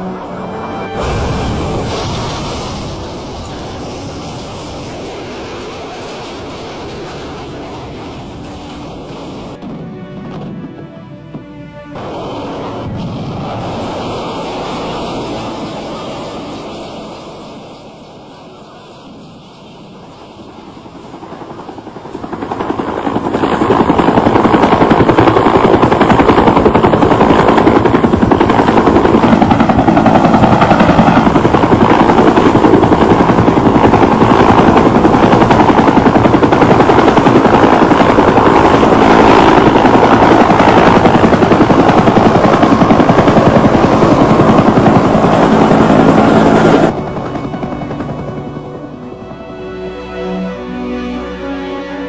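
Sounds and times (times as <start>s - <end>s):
helicopter rotor chop: 1.0s - 9.6s, 12.0s - 49.0s.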